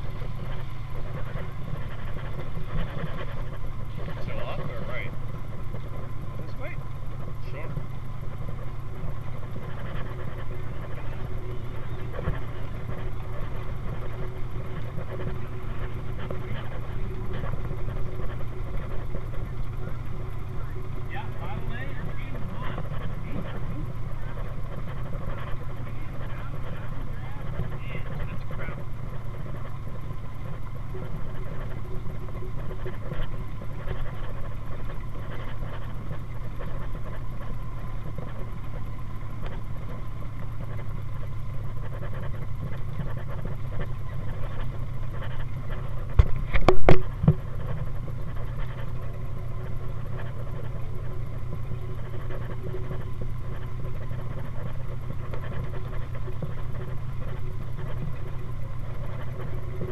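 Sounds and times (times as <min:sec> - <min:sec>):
engine running at low speed: 0:00.0 - 0:59.9.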